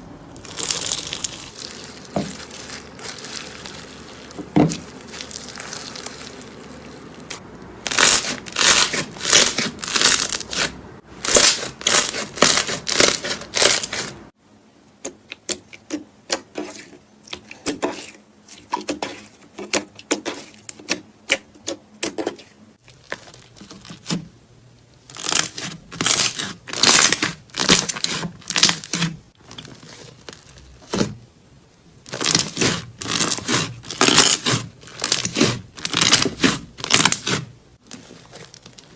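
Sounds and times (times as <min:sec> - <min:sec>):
slime crackling and squelching: 0:00.4 - 0:14.3, 0:15.3 - 0:24.3, 0:25.0 - 0:31.2, 0:32.0 - 0:38.9.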